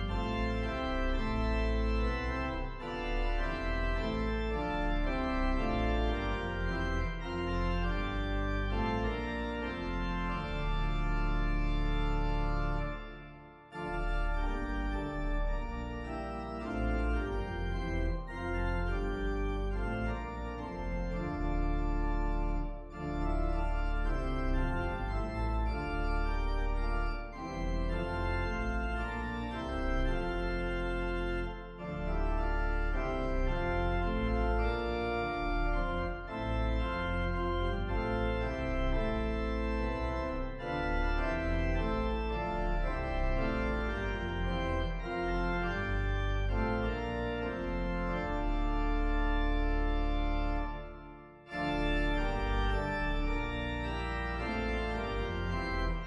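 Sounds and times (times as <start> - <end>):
organ playing sustained chords: 0.0 - 56.0.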